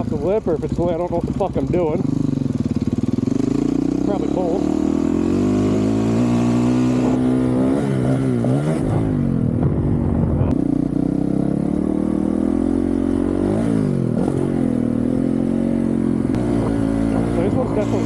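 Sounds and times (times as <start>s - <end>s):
motorcycle engine under throttle: 0.0s - 18.0s.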